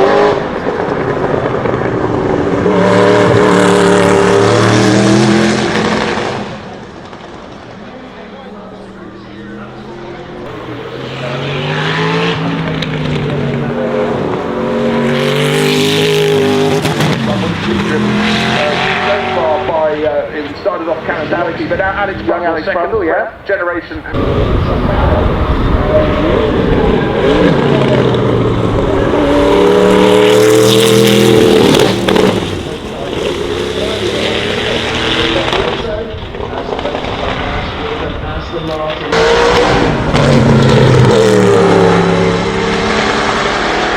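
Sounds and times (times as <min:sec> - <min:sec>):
race car engine accelerating: 0:00.0 - 0:22.3, 0:24.1 - 0:43.9.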